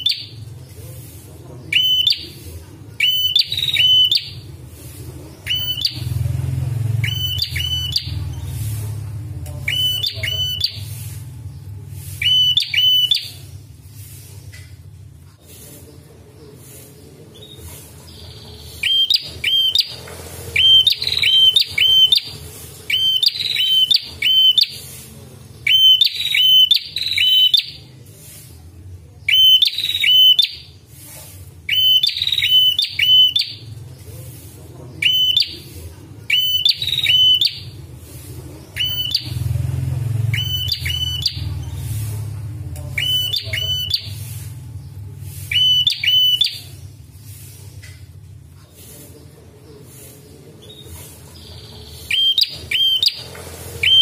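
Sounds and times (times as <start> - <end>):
tailorbird chirping: 0.0 - 1.0, 1.7 - 14.4, 16.4 - 27.8, 31.7 - 47.7, 48.4 - 54.0.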